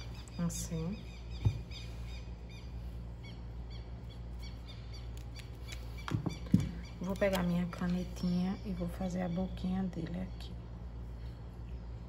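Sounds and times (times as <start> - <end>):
small bird chirping: 0.0 - 10.4
steady low hum: 0.0 - 12.0.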